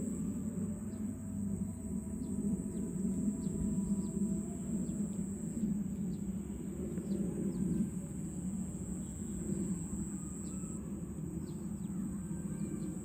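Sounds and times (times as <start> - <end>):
continuous low rumble: 0.0 - 13.0
high-pitched insect drone: 0.0 - 13.0.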